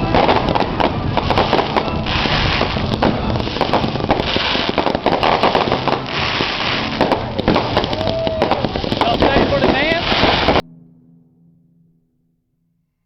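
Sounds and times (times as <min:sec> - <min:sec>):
fireworks bangs and crackles: 0:00.0 - 0:10.6
hissing crackle bursts: 0:00.0 - 0:10.6.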